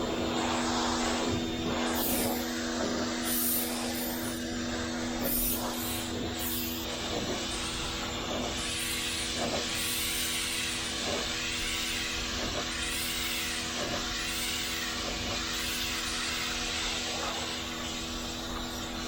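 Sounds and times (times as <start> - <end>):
pressure washer motor humming: 0.0 - 19.0
water jet hissing on concrete: 0.0 - 19.0.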